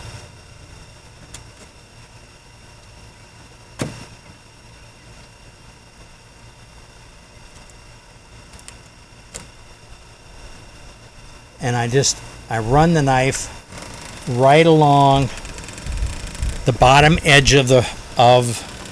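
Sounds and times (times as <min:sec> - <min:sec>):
faint steady tones: 0:00.0 - 0:18.9
steady mechanical hum: 0:00.0 - 0:18.9.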